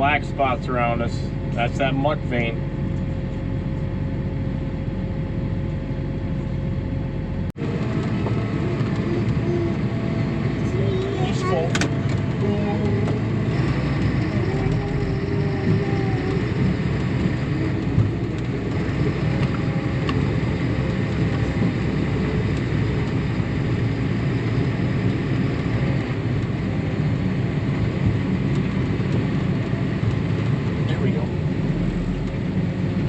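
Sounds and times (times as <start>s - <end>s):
harvest machinery rumble: 0.0s - 33.0s.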